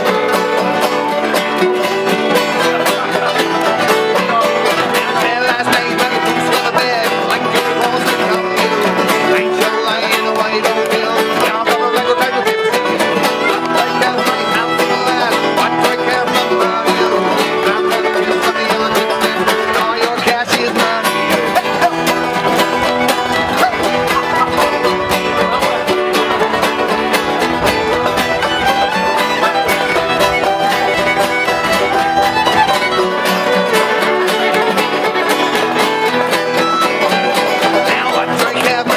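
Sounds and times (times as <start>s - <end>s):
bluegrass string band music: 0.0s - 38.9s.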